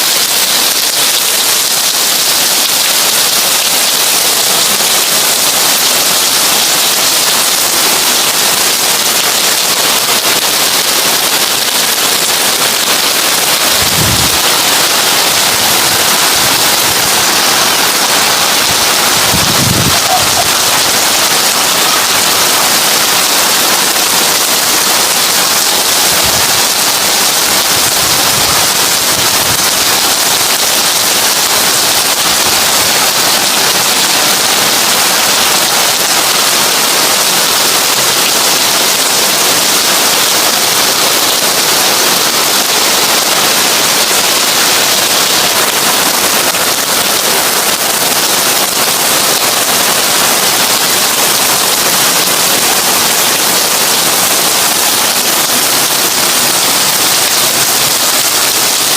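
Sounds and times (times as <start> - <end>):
heavy rain on a tin roof: 0.0 - 58.9.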